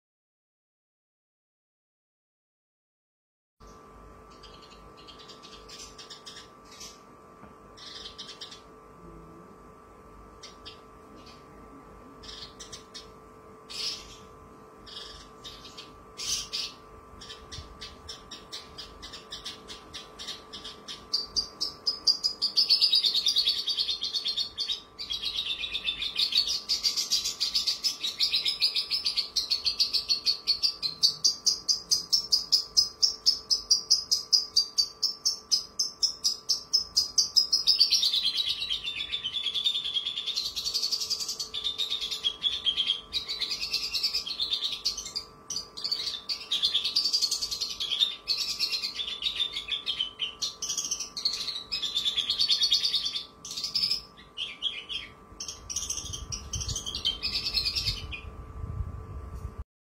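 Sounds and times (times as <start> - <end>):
bird singing trilled song: 3.6 - 8.8, 10.3 - 58.7.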